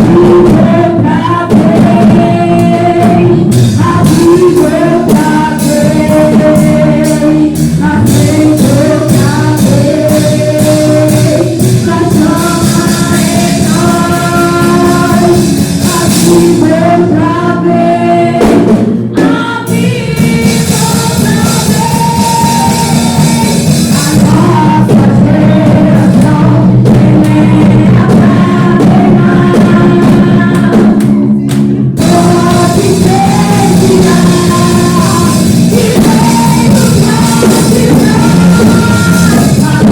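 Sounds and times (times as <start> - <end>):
gospel worship band playing: 0.0 - 39.9
voices singing held notes: 0.0 - 39.9.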